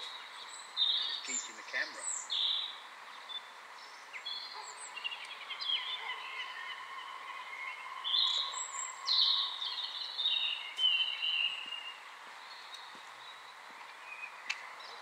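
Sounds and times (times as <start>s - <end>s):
background hiss: 0.0s - 15.0s
birds singing: 0.0s - 15.0s.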